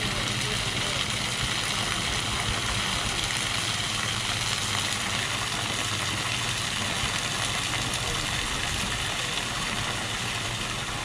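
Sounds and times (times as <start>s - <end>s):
low steady hum: 0.0s - 11.0s
water pouring into pool: 0.0s - 11.0s.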